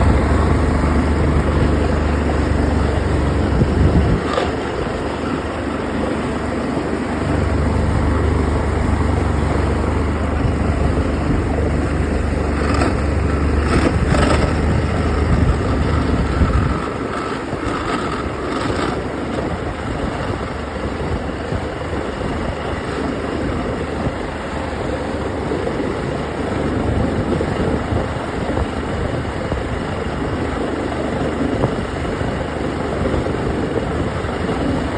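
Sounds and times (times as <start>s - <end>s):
outboard motor grinding rumble: 0.0s - 34.9s.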